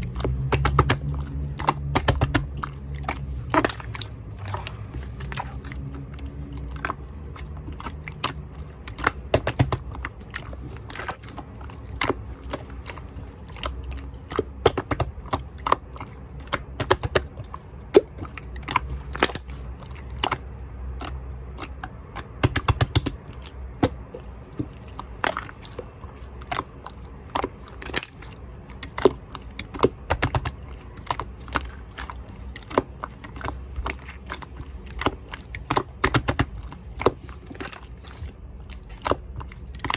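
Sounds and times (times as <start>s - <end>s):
slime squishing sticky clicks: 0.0s - 39.9s.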